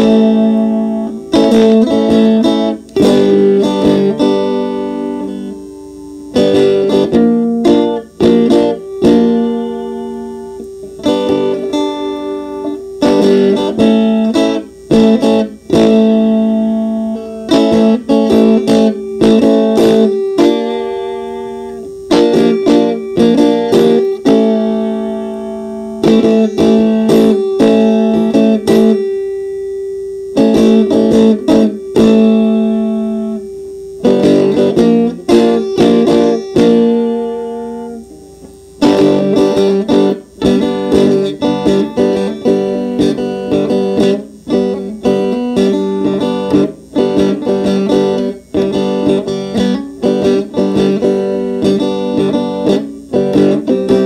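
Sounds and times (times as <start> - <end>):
electric banjo picking: 0.0 - 54.0.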